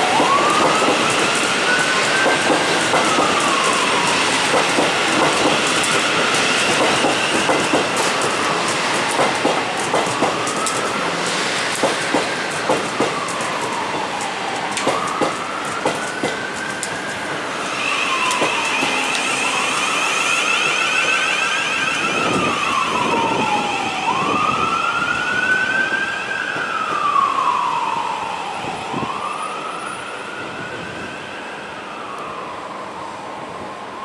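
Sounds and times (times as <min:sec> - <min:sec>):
emergency vehicle siren wailing: 0:00.0 - 0:34.0.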